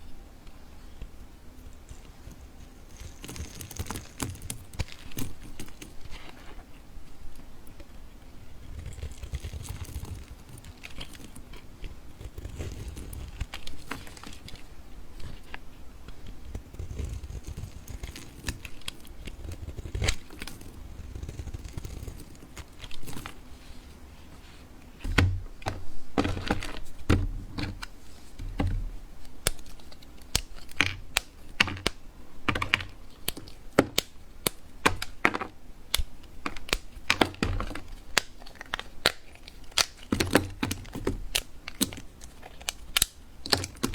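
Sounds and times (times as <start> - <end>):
blade crushing dry soap: 1.0 - 23.6, 25.0 - 43.9.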